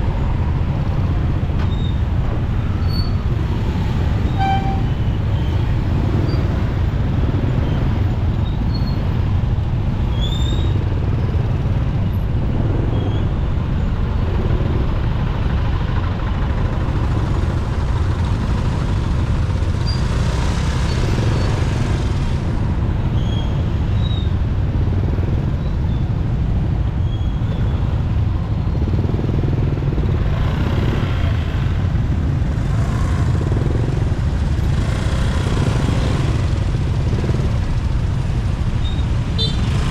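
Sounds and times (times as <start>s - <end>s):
motorcycle engine and road rumble: 0.0s - 39.9s.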